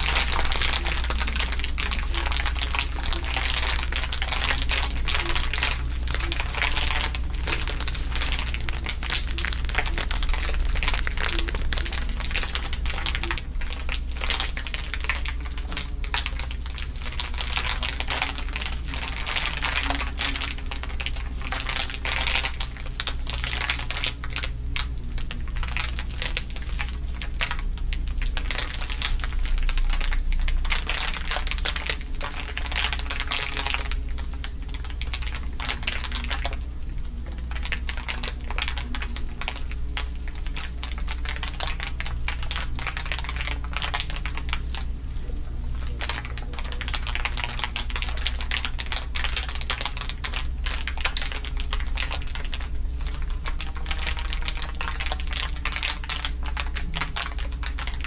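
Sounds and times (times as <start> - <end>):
crinkling crackle: 0.0 - 58.0.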